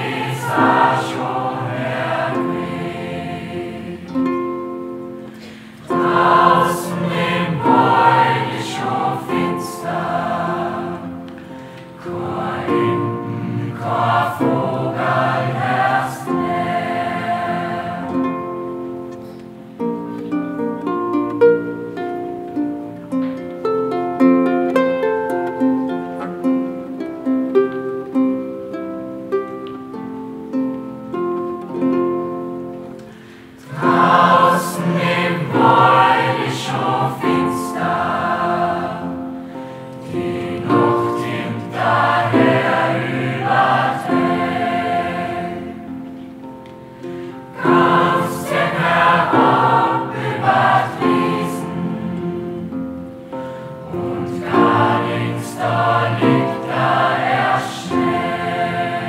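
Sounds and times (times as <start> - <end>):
choir singing: 0.0 - 22.8, 31.7 - 59.0
plucked string accompaniment: 0.0 - 59.0.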